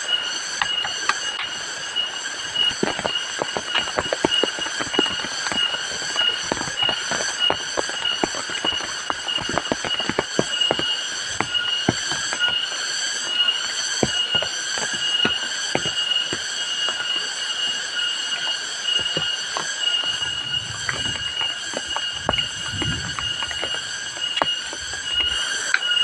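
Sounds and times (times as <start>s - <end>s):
pulsing high-pitched whine: 0.0s - 26.0s
raindrops tapping: 2.6s - 17.2s, 19.0s - 25.5s.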